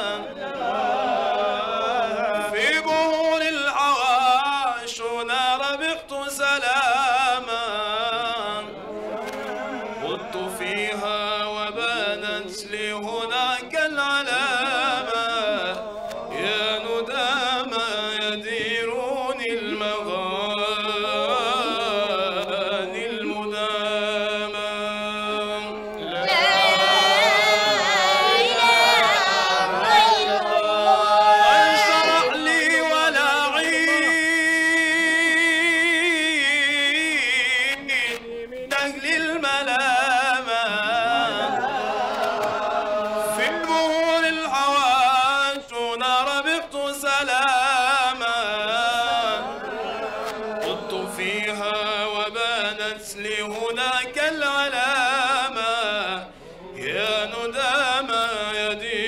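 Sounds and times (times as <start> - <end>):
man chanting into a microphone: 1.4 - 26.2, 31.5 - 41.6, 42.8 - 49.5, 50.4 - 59.0.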